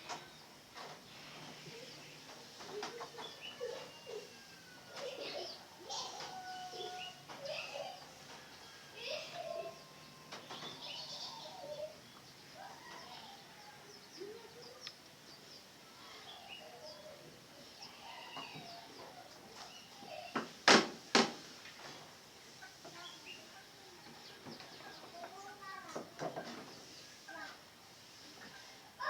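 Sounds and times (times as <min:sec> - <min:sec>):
birds chirping: 0:00.0 - 0:20.7, 0:21.8 - 0:29.0.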